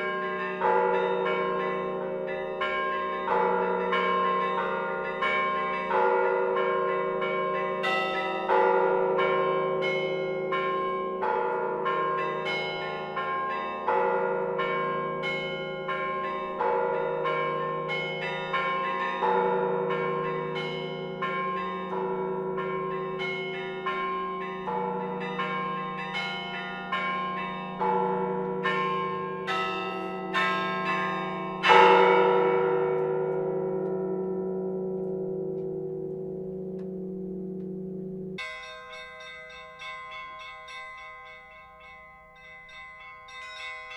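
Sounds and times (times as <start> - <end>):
church bells ringing: 0.0 - 43.9.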